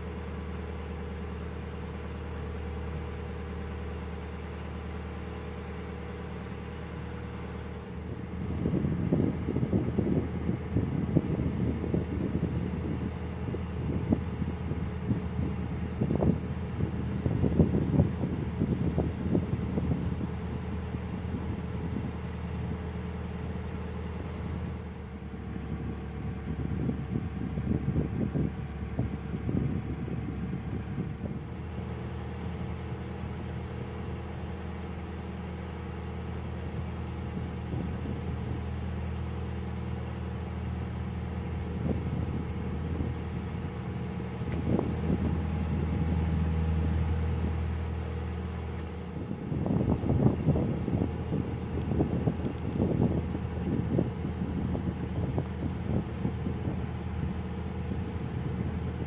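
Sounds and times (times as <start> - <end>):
boat diesel engine running: 0.0 - 59.0
wind buffeting microphone: 7.9 - 59.0.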